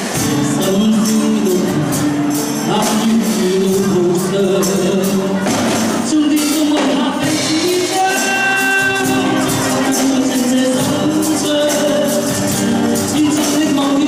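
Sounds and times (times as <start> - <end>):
instrumental backing with beat: 0.0 - 14.0
person singing: 0.0 - 14.0.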